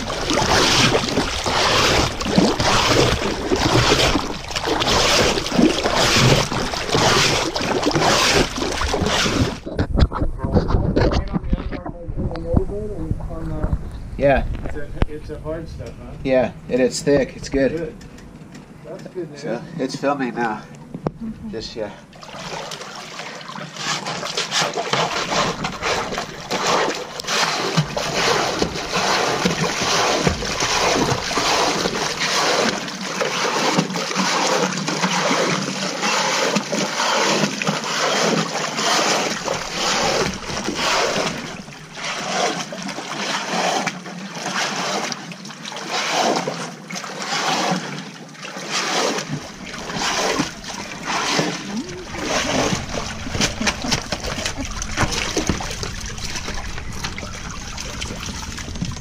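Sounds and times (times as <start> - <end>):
water splashing and churning: 0.0 - 11.8, 21.7 - 59.0.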